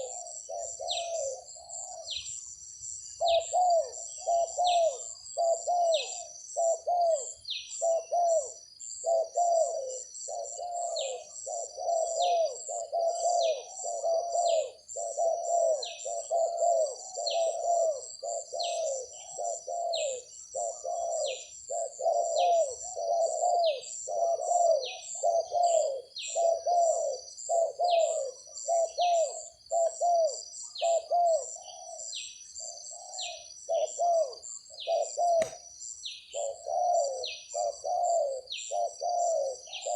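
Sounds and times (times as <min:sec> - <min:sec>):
doves cooing: 0:00.0 - 0:02.5, 0:03.1 - 0:35.7, 0:36.3 - 0:39.9.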